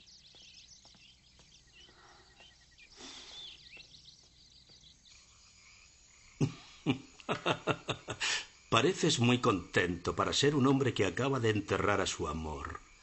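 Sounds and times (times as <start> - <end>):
birds chirping: 0.0 - 13.0
insects: 0.0 - 13.0.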